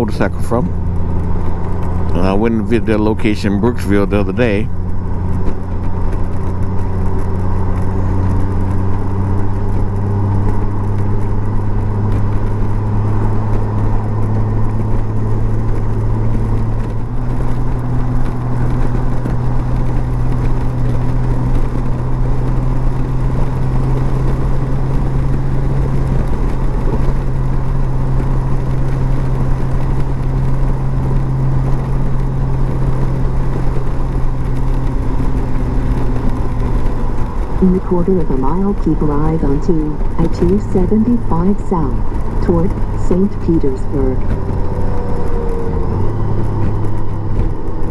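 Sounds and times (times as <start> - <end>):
motorcycle engine cruising: 0.0 - 47.9
wind and road noise: 0.0 - 47.9.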